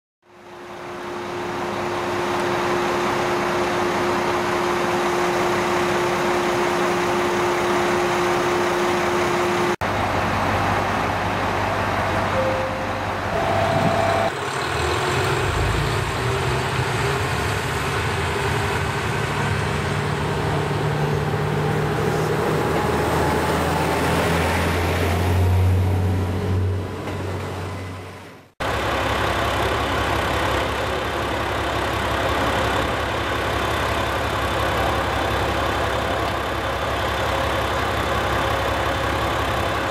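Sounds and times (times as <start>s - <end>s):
diesel railcar running: 0.2s - 39.9s.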